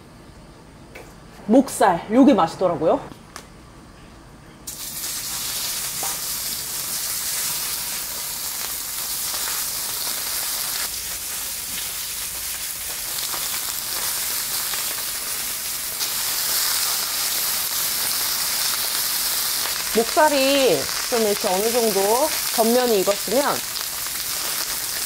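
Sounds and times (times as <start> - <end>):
meat sizzling in hot oil: 4.7 - 25.0.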